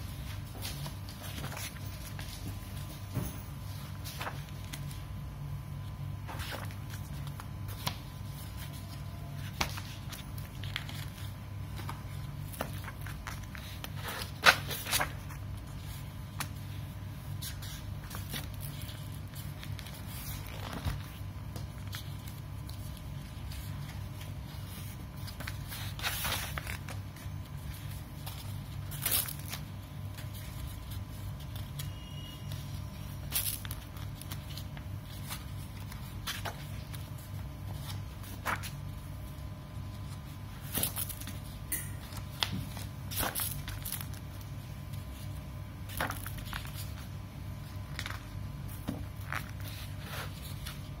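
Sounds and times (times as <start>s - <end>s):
paper pages rustling: 0.0s - 51.0s
steady low hum: 0.0s - 51.0s.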